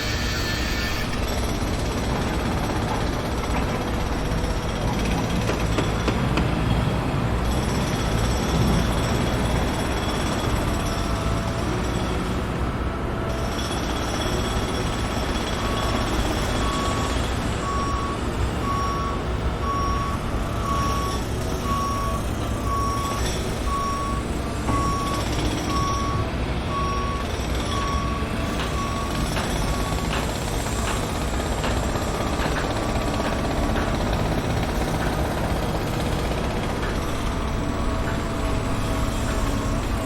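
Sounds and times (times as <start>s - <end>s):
reversing alarm beeping: 0.0s - 6.2s, 7.4s - 40.0s
heavy machinery engines rumbling: 0.0s - 40.0s.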